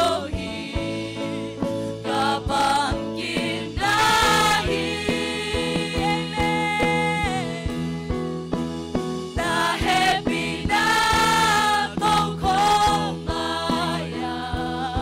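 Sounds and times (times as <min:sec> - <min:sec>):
gospel singing: 0:00.0 - 0:07.9, 0:09.3 - 0:15.0
instrumental accompaniment with beat: 0:00.0 - 0:15.0.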